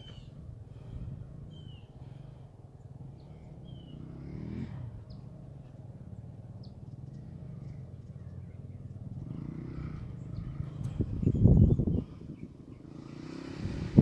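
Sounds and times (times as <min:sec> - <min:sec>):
distant dirt bike engine revving: 0:00.0 - 0:14.0.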